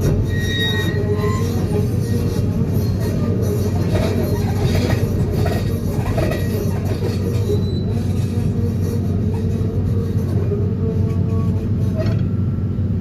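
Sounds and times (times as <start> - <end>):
metallic rattling and screech: 0.0 - 12.3.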